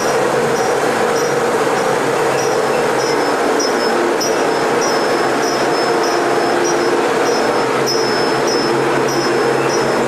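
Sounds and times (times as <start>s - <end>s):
machinery drone: 0.0s - 10.0s.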